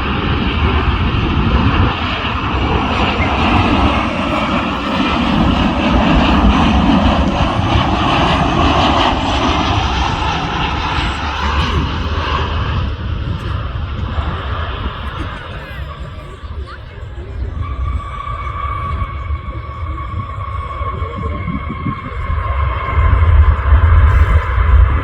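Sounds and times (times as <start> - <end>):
airliner engines passing: 0.0 - 25.0.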